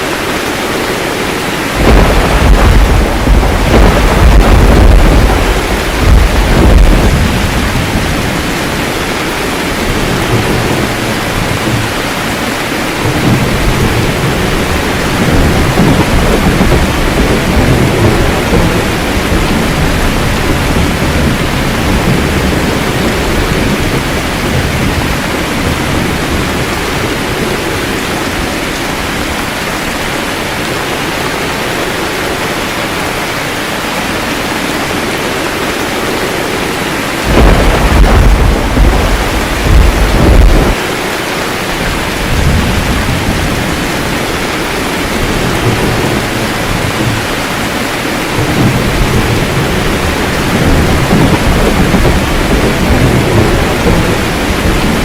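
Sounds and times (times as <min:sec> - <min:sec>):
steady rain falling: 0:00.0 - 0:55.0
faint rolling thunder: 0:00.2 - 0:55.0
loud thunder clap: 0:01.7 - 0:28.4, 0:35.4 - 0:41.1, 0:41.8 - 0:55.0.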